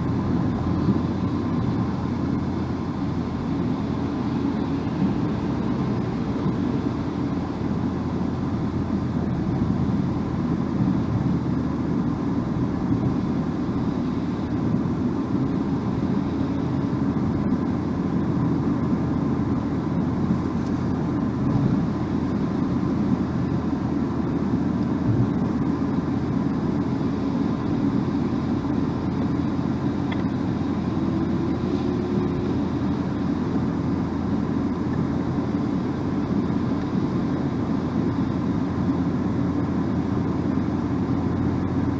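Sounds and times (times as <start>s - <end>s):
car engine: 0.0s - 41.9s
tyres rumbling on asphalt: 0.0s - 41.9s.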